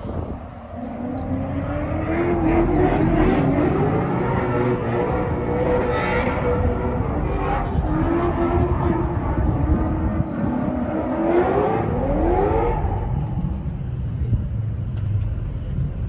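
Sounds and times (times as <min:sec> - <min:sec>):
car engine revving: 0:00.0 - 0:16.0
low rumble: 0:00.0 - 0:16.0.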